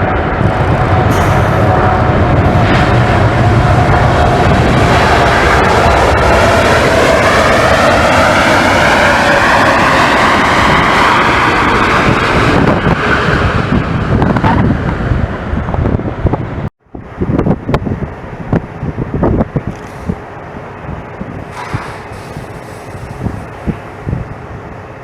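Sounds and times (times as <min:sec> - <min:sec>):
jet airliner passing: 0:00.0 - 0:16.6, 0:19.8 - 0:24.8
wind buffeting microphone: 0:00.0 - 0:24.8.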